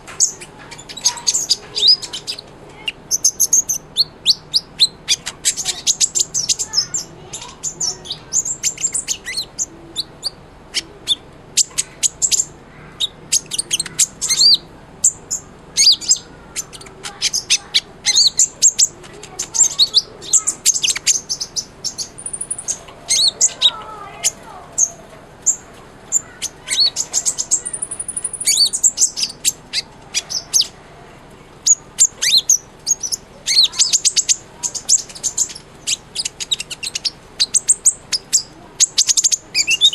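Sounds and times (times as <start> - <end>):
bird chirping and trilling: 0.0 - 30.8, 31.6 - 39.9.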